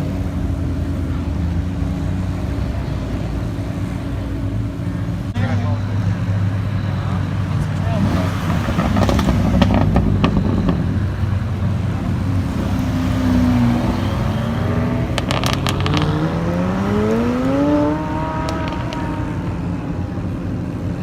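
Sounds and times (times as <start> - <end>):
exhaust crackles: 0.0 - 21.0
sports car engine rumbling: 0.0 - 21.0.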